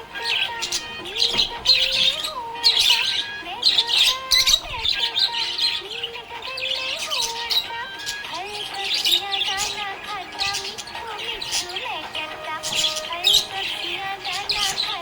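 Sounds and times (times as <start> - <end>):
budgerigars chirping and warbling: 0.0 - 15.0.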